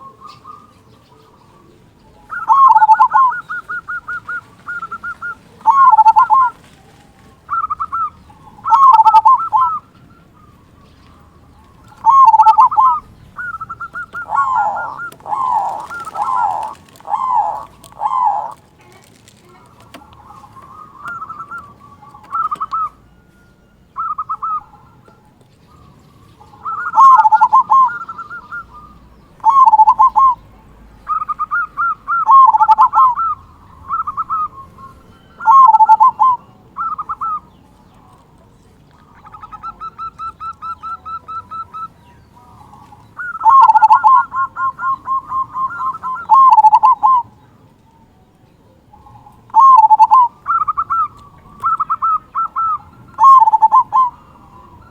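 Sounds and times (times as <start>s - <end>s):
dove cooing song: 0.0s - 54.9s
soft rapid bird notes: 0.0s - 54.9s.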